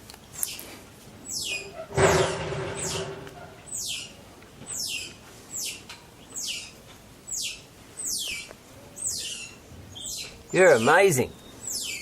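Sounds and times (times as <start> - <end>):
bird chirping: 1.2 - 12.0.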